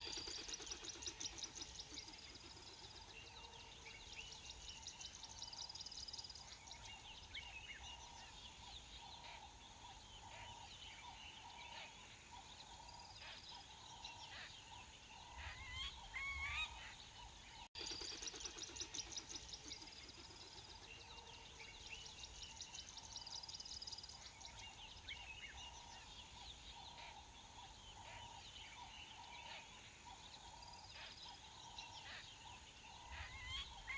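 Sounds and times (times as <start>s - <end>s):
bird chirps and trills: 0.0s - 33.9s.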